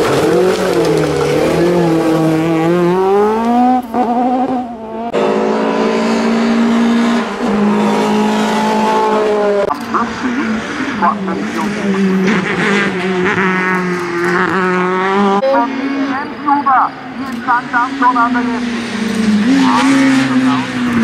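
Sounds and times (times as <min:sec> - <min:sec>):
race car engine accelerating: 0:00.0 - 0:21.0.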